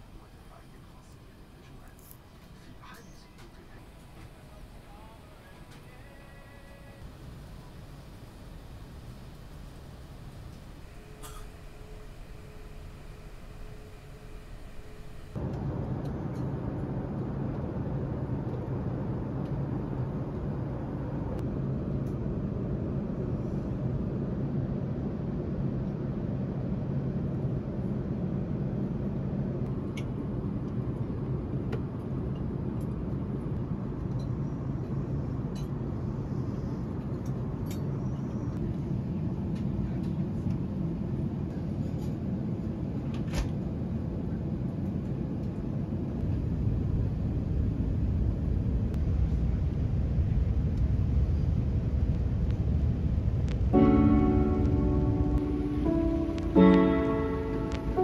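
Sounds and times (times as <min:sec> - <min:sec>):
airliner cabin rumble and hiss: 0:00.0 - 0:58.0.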